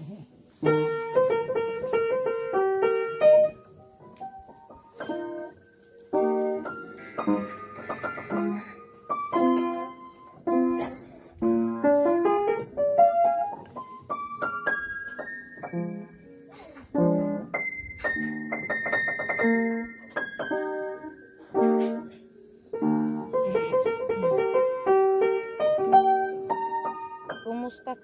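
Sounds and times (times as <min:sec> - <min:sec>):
piano melody: 0:00.0 - 0:28.0.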